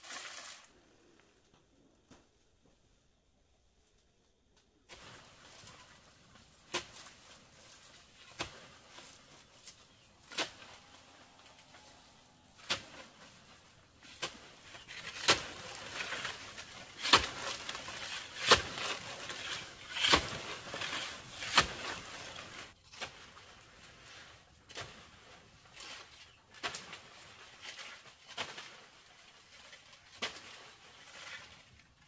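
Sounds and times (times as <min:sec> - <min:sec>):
rustling: 0:00.0 - 0:03.0, 0:04.9 - 0:32.0.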